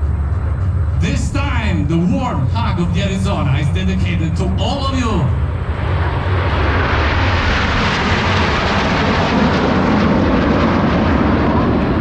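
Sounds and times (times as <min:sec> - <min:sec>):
jet aircraft passing: 0:00.0 - 0:12.0.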